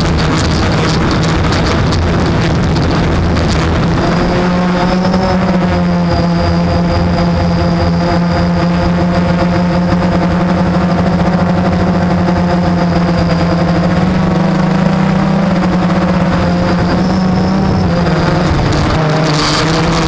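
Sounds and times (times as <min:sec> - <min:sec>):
quadcopter propellers buzzing: 0:00.0 - 0:20.0.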